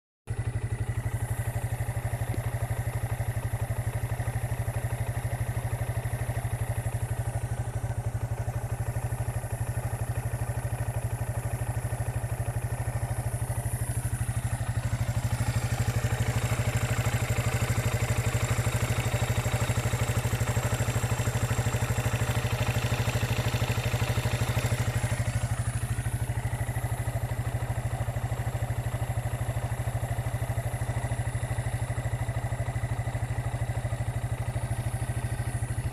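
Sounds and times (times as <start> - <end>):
motorcycle engine idling: 0.3 - 35.9.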